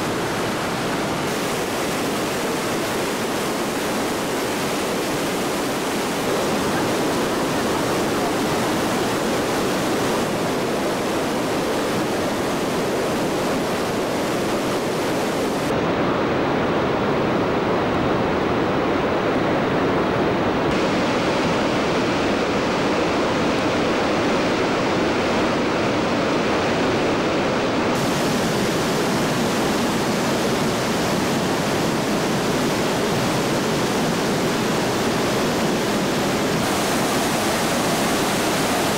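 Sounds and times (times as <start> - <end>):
waterfall rushing: 0.0 - 16.3, 20.7 - 38.9.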